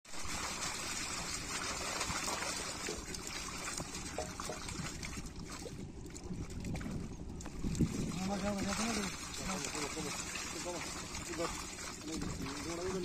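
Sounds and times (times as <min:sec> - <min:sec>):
pond water splashing and trickling: 0:00.0 - 0:13.0
water dripping: 0:00.3 - 0:13.0.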